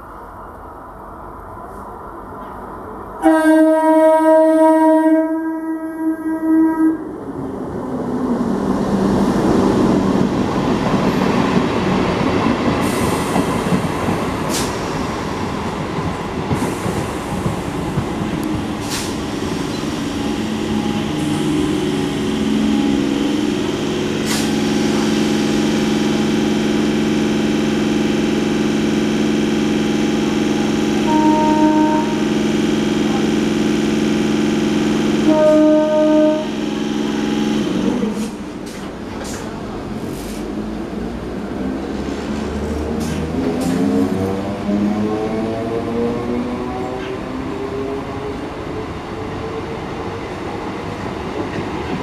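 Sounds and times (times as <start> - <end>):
low hum from train coaches: 0.0 - 52.0
train wheels rumbling on rails: 7.4 - 52.0.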